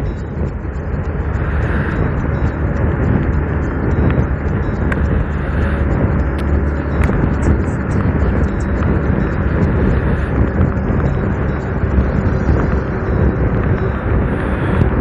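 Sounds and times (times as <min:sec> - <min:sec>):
motorcycle road noise: 0:00.0 - 0:15.0
wind rush on microphone: 0:00.0 - 0:15.0.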